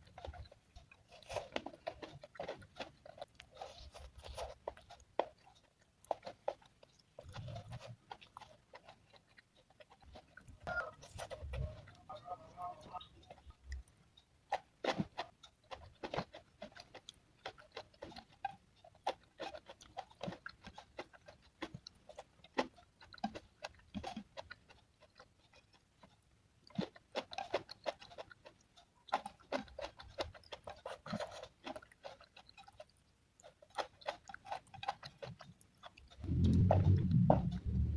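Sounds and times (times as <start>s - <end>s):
chewing and lip smacks: 0.0s - 37.9s.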